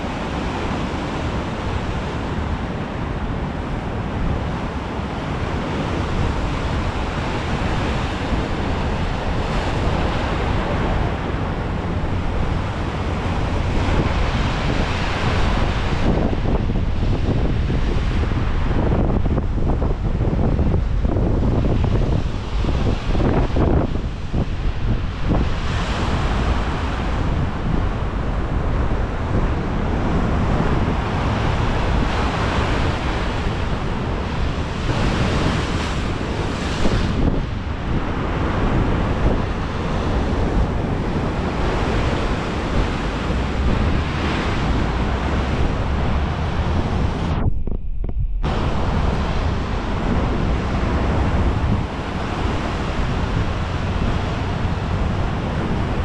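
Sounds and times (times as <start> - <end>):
large waves breaking on shore: 0.0 - 47.8, 48.4 - 56.0
wind rumbling on microphone: 0.0 - 56.0.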